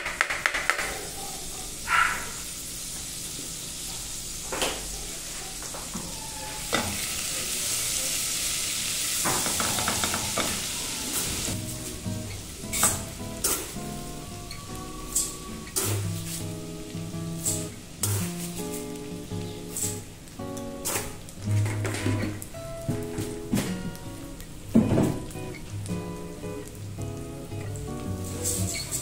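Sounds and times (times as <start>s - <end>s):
garlic sizzling in fat: 1.0s - 29.0s.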